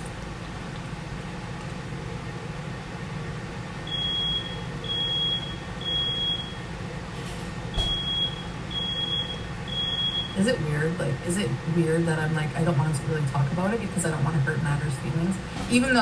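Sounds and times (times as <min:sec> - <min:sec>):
low steady room hum: 0:00.0 - 0:16.0.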